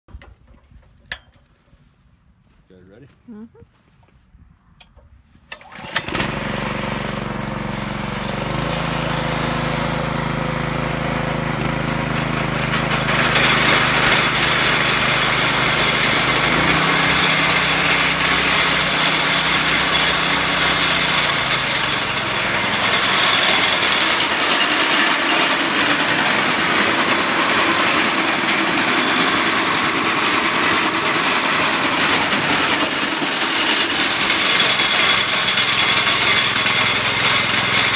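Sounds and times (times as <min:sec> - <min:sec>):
pull starter: 0:04.8 - 0:37.9
small engine running: 0:05.5 - 0:37.9.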